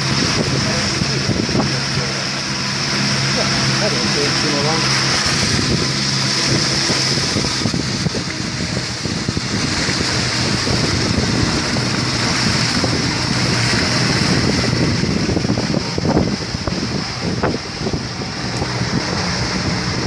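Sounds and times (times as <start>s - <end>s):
churning wake water: 0.0s - 20.0s
outboard motor running: 0.0s - 20.0s
wind buffeting microphone: 0.0s - 20.0s.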